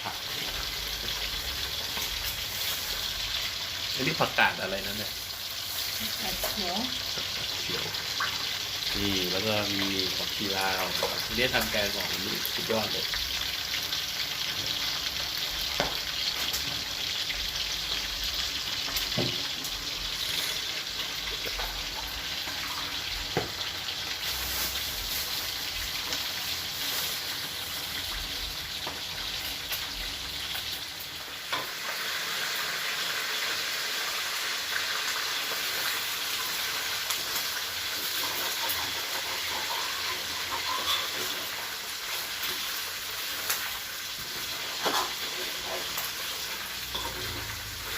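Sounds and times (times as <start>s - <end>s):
food frying in hot oil: 0.0s - 47.9s.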